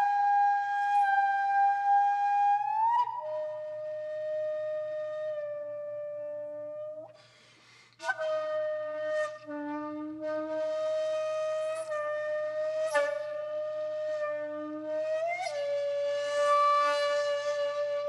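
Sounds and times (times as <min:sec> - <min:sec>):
flute-like wind instrument: 0:00.0 - 0:07.3, 0:08.0 - 0:18.0.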